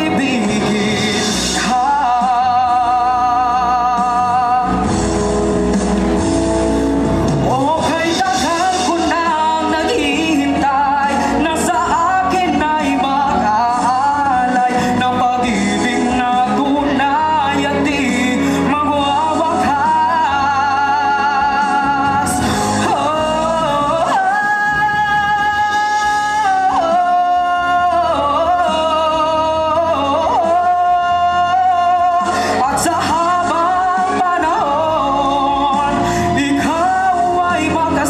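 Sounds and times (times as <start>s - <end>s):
man singing into a microphone: 0.0s - 6.2s, 7.0s - 38.0s
instrumental accompaniment: 0.0s - 38.0s.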